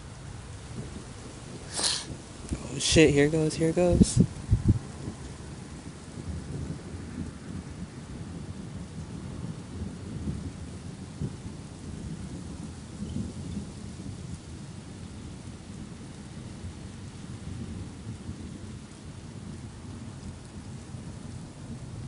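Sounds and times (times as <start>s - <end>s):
falling rain hiss: 0.0s - 22.0s
thunder rumbling: 0.0s - 22.0s.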